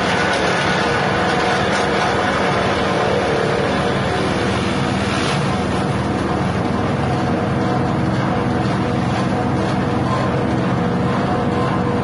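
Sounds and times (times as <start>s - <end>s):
grass being cut: 0.0s - 12.0s
grass chopper engine running: 0.0s - 12.0s.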